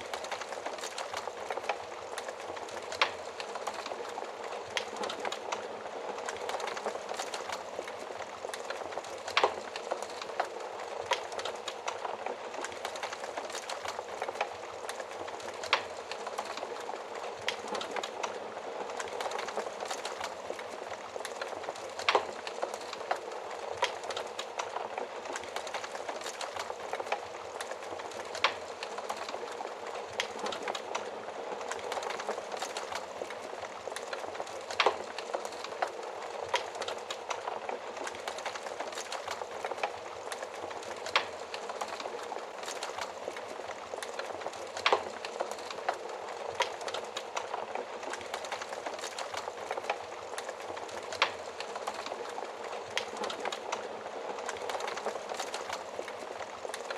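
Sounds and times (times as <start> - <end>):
fire crackling and popping: 0.0 - 56.9
hissing flames: 0.0 - 56.9.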